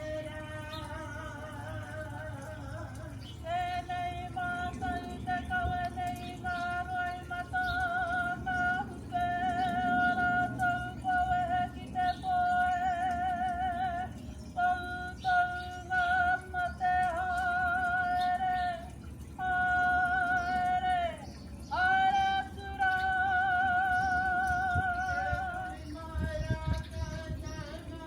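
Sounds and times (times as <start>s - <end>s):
woman singing ceremonial call: 0.0s - 28.0s.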